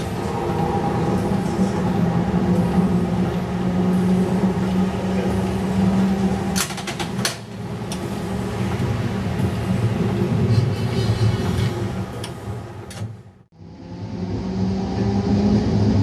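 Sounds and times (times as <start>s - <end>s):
streetcar electric drive hum: 0.0s - 16.0s.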